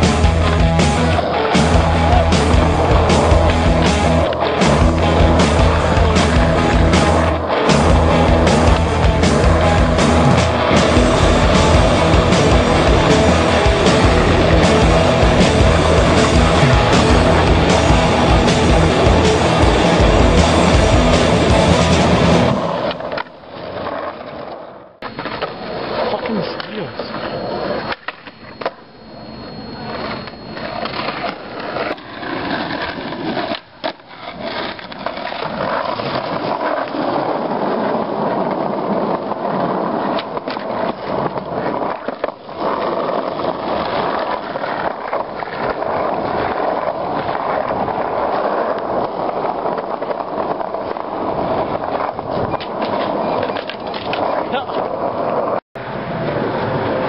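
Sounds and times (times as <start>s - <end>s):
skateboard wheels rolling on pavement: 0.0s - 57.0s.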